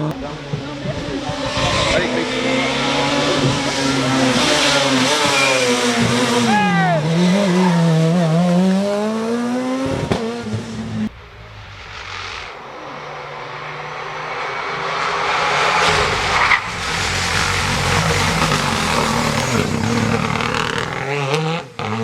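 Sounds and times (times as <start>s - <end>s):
rally car approaching: 0.0s - 22.0s
rally car engine revving: 0.0s - 22.0s.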